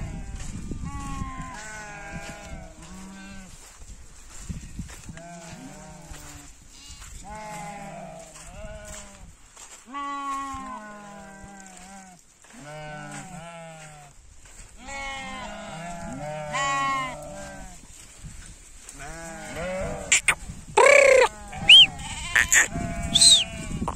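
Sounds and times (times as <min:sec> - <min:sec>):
sheep and goats bleating: 0:00.0 - 0:04.4, 0:05.0 - 0:17.9, 0:18.8 - 0:23.9.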